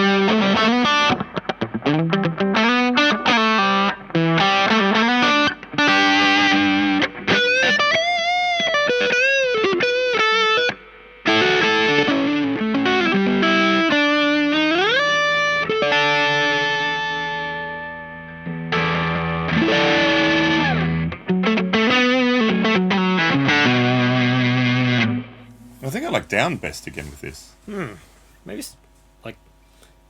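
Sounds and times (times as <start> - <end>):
distorted electric guitar: 0.0 - 25.9.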